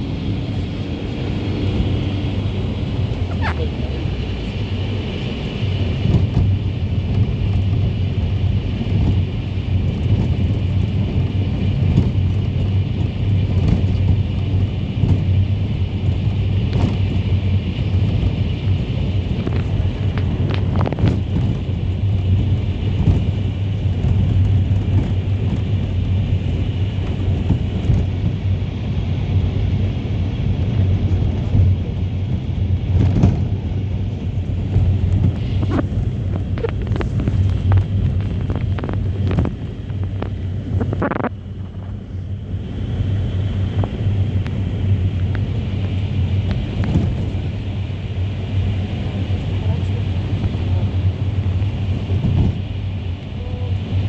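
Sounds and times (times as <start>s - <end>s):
body rattles: 0.0s - 28.1s, 34.2s - 42.1s, 43.6s - 52.6s
low engine drone: 0.0s - 54.0s
road rumble: 0.0s - 54.0s.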